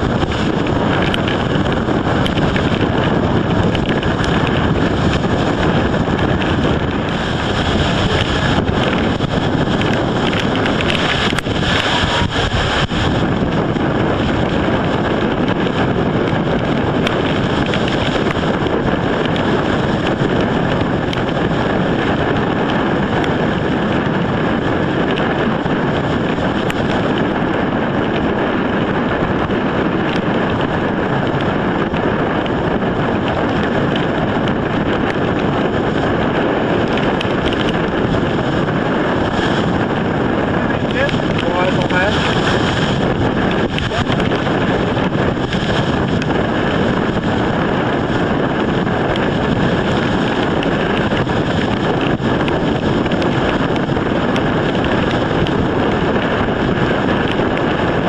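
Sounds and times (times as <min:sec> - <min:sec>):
choppy waves: 0:00.0 - 0:58.0
storm wind on microphone: 0:00.0 - 0:58.0.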